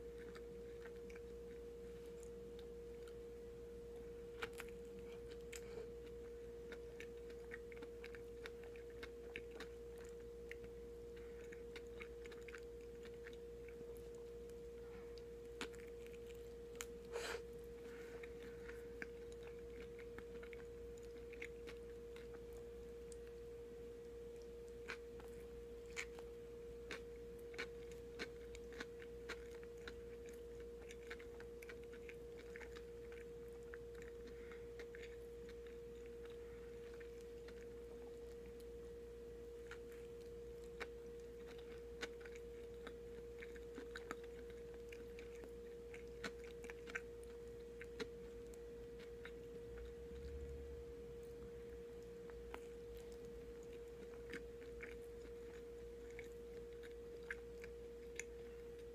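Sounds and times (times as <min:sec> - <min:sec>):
faint high hum: 0:00.0 - 0:58.9
person chewing sandwich: 0:00.0 - 0:58.9.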